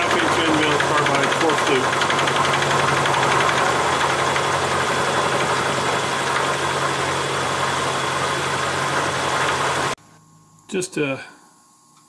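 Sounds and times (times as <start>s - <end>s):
milling machine cutting metal: 0.0s - 10.0s.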